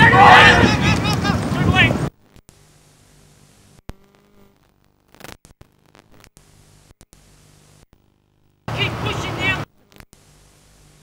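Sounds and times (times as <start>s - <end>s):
tape hiss and hum: 0.0s - 11.0s.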